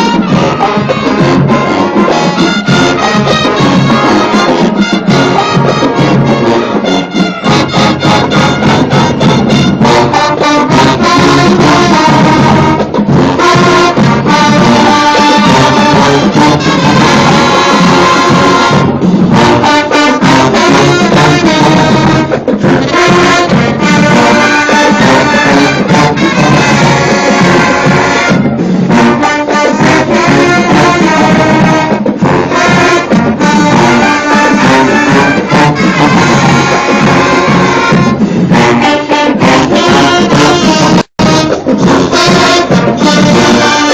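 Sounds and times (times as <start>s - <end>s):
driving drum beat: 0.0s - 43.9s
marching band brass section: 0.0s - 43.9s.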